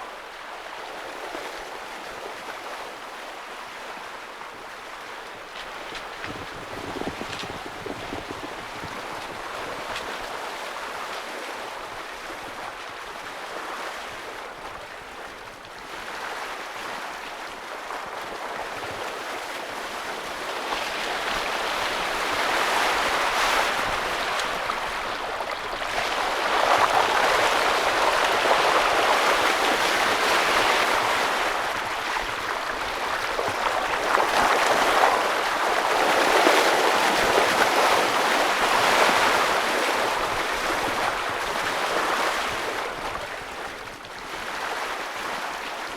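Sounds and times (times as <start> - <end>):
water rushing along boat hull: 0.0 - 45.9.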